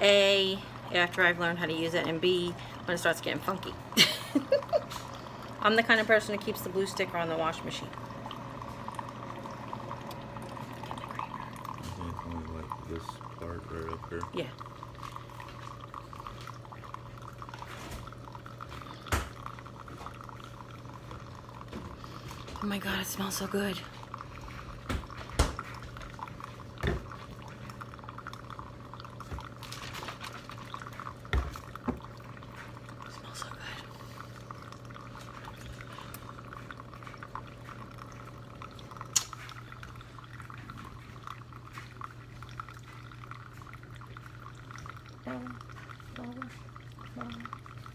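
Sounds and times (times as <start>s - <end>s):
coffee streaming into a mug: 0.0s - 47.9s.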